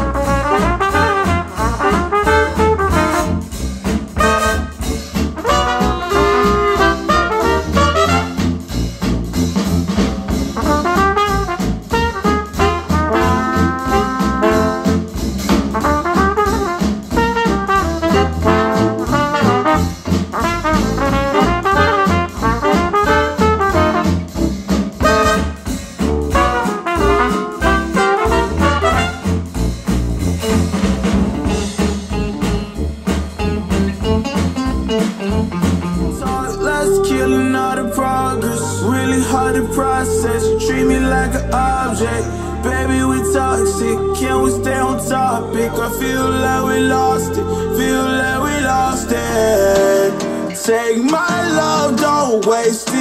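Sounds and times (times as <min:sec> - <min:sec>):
jazz with trumpet and trombone: 0:00.0 - 0:53.0.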